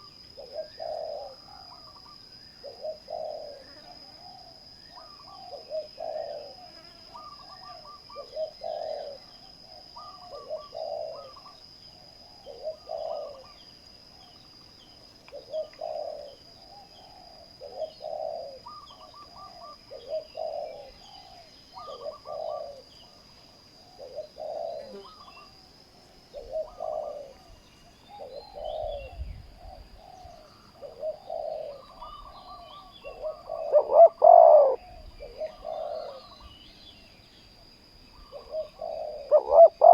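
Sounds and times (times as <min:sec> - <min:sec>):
doves cooing: 0:00.0 - 0:13.7, 0:15.3 - 0:23.2, 0:23.8 - 0:25.6, 0:26.3 - 0:36.6, 0:38.1 - 0:39.9.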